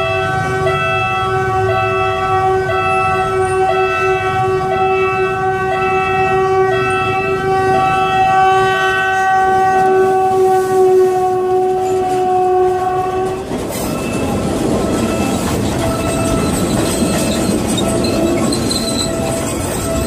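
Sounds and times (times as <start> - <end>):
train horn blast: 0.0 - 20.0
train rolling past: 0.0 - 20.0.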